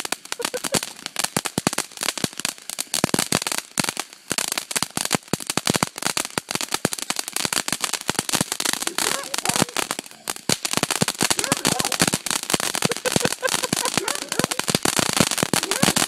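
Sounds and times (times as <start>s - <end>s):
firework crackling pops: 0.0s - 16.0s
firework fountain hissing: 0.0s - 16.0s.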